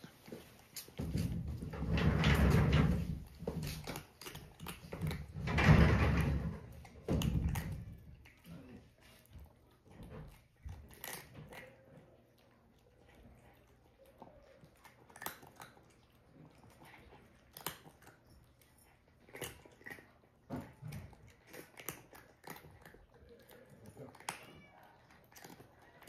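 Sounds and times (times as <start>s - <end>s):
cat crunching dry kibble: 0.0s - 26.0s.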